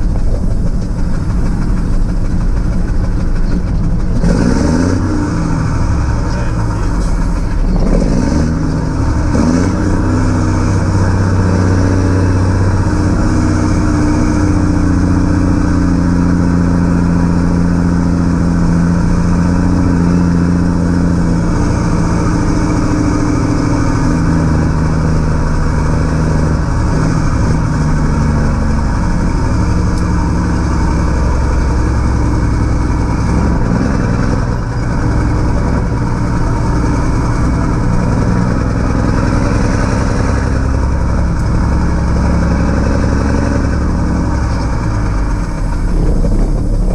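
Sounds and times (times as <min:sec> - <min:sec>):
diesel truck engine at speed: 0:00.0 - 0:46.9.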